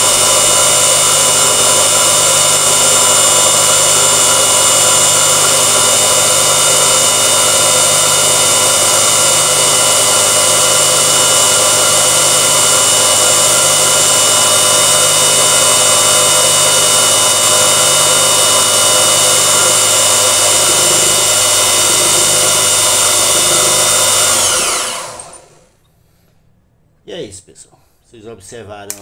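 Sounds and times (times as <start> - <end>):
motor spinning down: 0.0 - 25.8
motor whining: 0.0 - 25.8.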